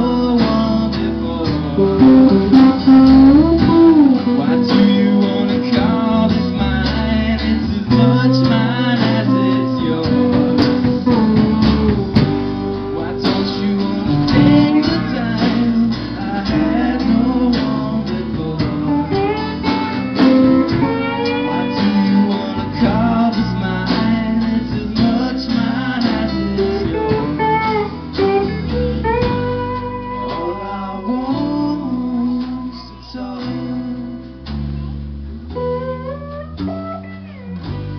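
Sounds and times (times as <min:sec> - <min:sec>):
man singing: 0:00.0 - 0:34.5
drum kit: 0:00.0 - 0:37.9
electric bass: 0:00.0 - 0:37.9
strummed acoustic guitar: 0:00.0 - 0:37.9.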